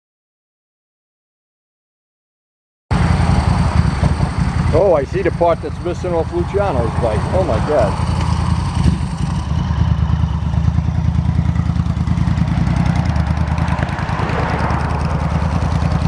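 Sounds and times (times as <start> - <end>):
motorcycle engine running: 2.9 - 16.0.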